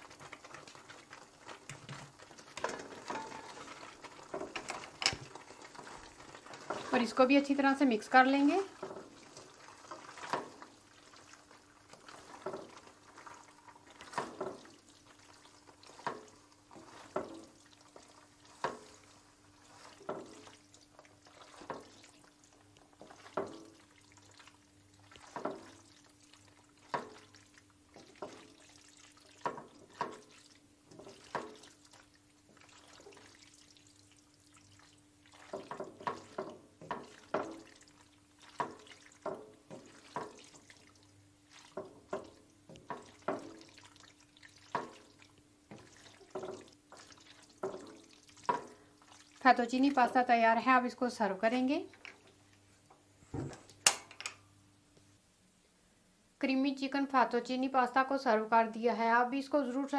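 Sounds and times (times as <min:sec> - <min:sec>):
pasta squelching in a pan: 0:00.0 - 0:54.0.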